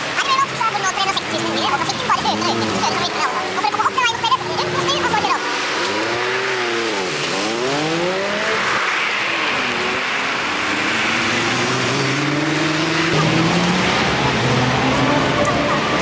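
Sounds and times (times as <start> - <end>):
road noise: 0.0 - 16.0
sped up vehicle engines: 0.0 - 16.0.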